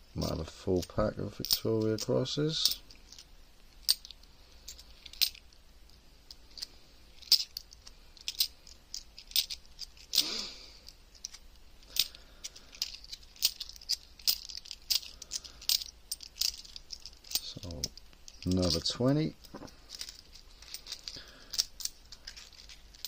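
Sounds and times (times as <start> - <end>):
coins clinking: 1.4 - 5.4, 6.3 - 23.0.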